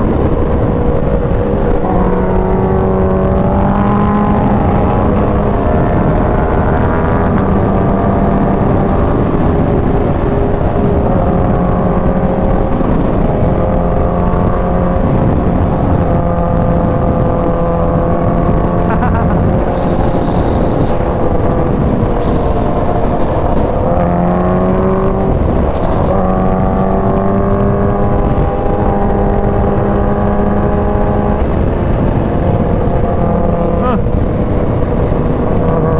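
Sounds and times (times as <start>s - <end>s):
heavy wind rush: 0.0s - 35.9s
motorcycle engine at speed: 0.0s - 35.9s.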